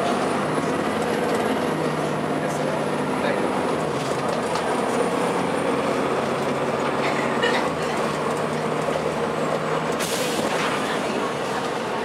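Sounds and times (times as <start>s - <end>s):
bus diesel engine running: 0.0s - 12.0s
road noise: 0.0s - 12.0s.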